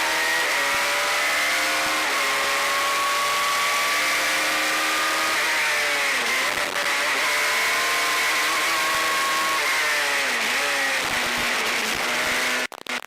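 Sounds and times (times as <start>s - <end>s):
racing engine at high revs: 0.0s - 13.0s.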